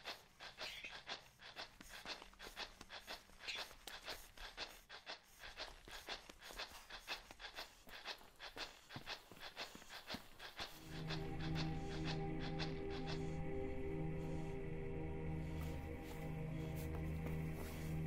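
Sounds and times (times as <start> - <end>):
dog panting rapidly: 0.0 - 18.0.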